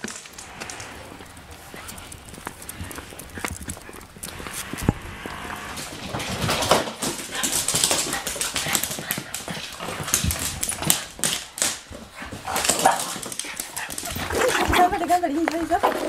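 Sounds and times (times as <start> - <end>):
dog claws clicking on wood floor: 0.0 - 16.0
dogs scuffling: 0.0 - 16.0
dog vocal sounds: 0.3 - 16.0.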